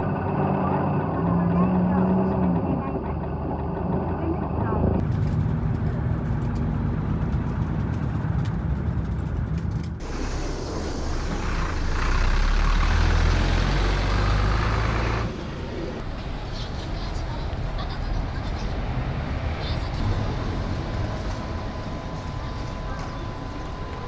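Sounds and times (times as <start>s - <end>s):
bus engine running: 0.0s - 24.0s
road noise: 0.0s - 24.0s.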